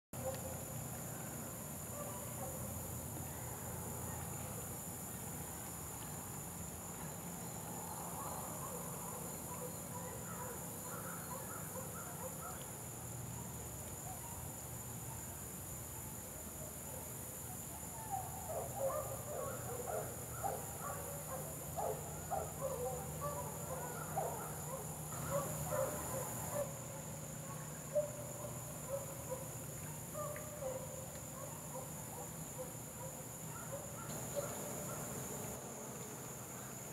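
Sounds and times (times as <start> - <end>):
insects droning: 0.2 - 36.9.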